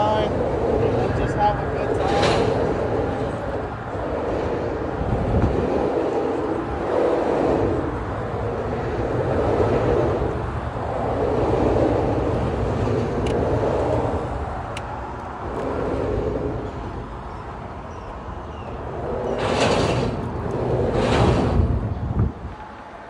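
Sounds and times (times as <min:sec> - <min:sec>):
traffic rumbling over bridge: 0:00.0 - 0:23.0.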